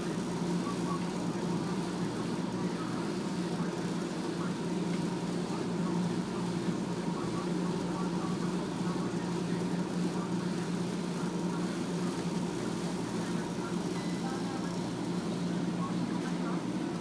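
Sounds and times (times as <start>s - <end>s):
dryers humming: 0.0s - 17.0s.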